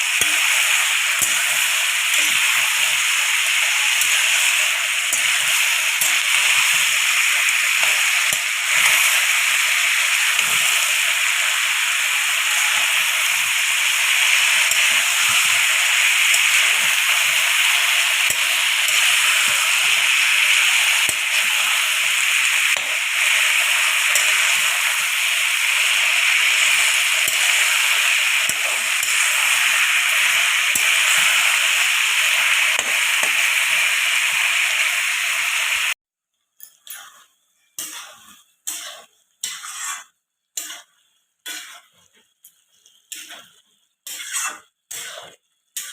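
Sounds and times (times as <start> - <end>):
spoon stirring in pan: 0.0 - 33.5, 36.6 - 45.9
vegetables sizzling in oil: 0.0 - 36.0, 37.8 - 45.9.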